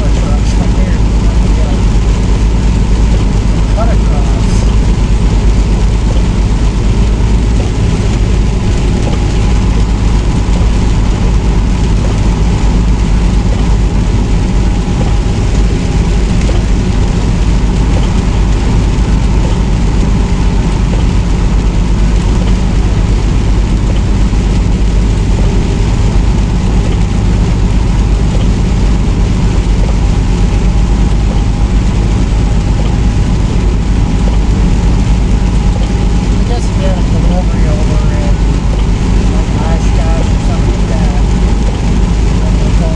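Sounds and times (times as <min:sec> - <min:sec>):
truck engine and road drone: 0:00.0 - 0:42.9.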